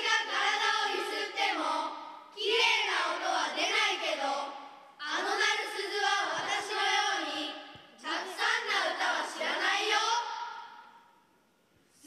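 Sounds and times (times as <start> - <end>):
children reciting in unison: 0.0 - 11.0.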